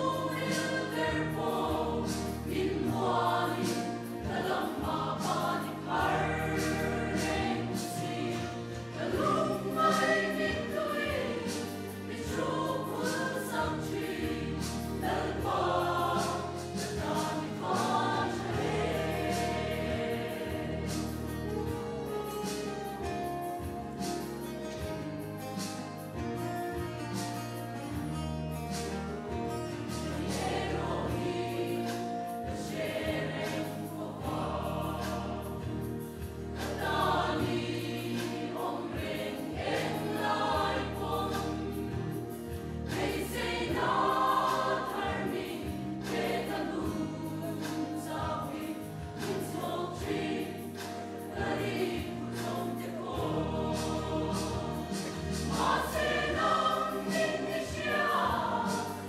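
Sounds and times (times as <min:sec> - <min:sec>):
choir singing a hymn: 0:00.0 - 0:24.5, 0:29.3 - 0:59.0.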